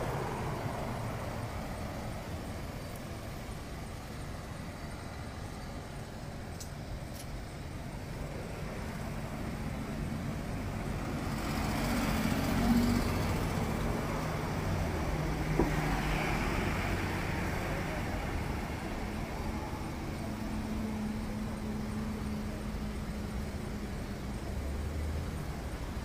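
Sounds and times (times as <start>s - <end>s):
cars passing on road: 0.0s - 26.0s.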